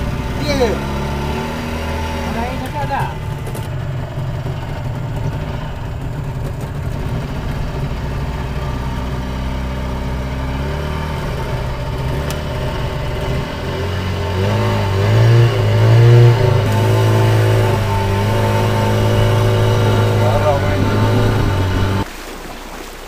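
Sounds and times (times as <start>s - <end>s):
engine running: 0.0s - 22.1s.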